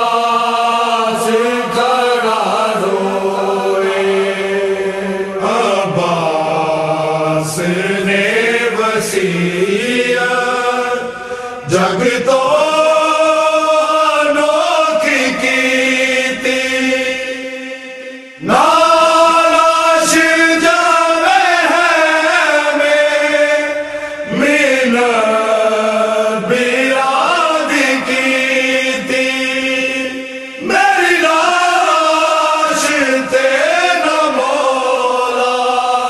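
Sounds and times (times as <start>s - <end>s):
person chanting a lament: 0.0s - 36.0s.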